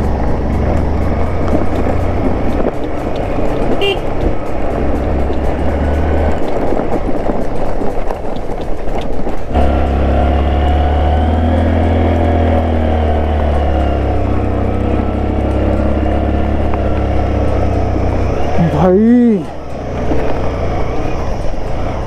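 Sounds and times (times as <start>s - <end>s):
motorcycle engine labouring: 0.0s - 22.0s.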